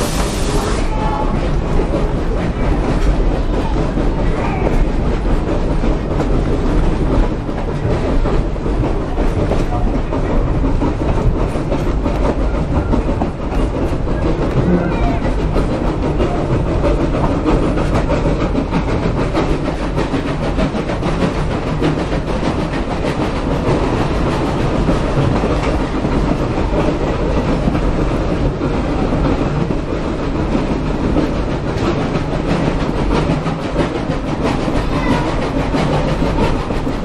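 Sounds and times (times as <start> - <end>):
train carriage rumble: 0.0 - 37.0
wheels clicking over rail joints: 1.0 - 37.0.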